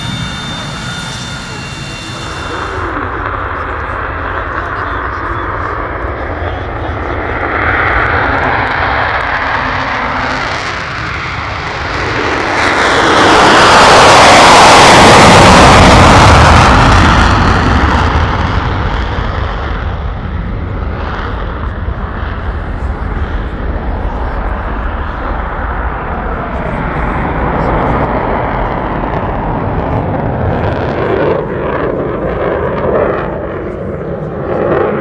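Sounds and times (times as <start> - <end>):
jet engine roaring: 0.0 - 35.0.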